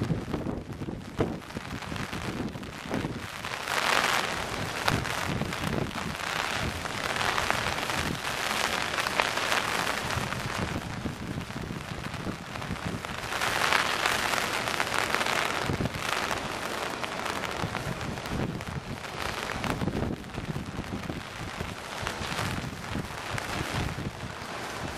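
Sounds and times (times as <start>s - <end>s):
heavy rain on pavement: 0.0s - 24.9s.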